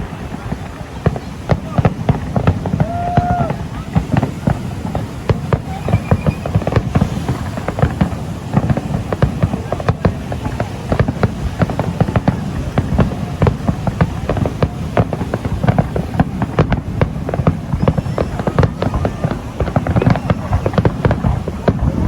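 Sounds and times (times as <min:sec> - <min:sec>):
faint firework whistle: 0:00.0 - 0:22.0
fireworks bangs and crackles: 0:00.0 - 0:22.0.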